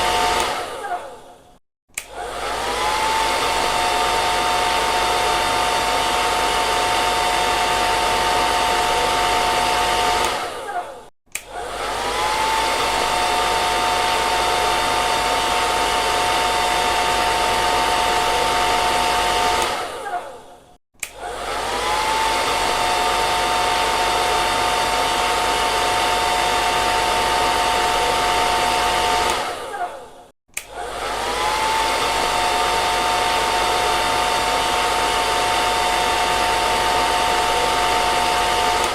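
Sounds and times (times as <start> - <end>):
hair dryer running: 0.0 - 1.4, 2.0 - 38.9.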